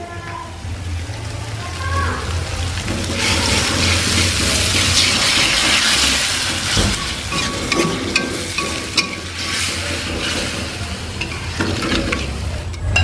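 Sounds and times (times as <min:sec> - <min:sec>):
spice paste sizzling in a wok: 0:00.0 - 0:12.7.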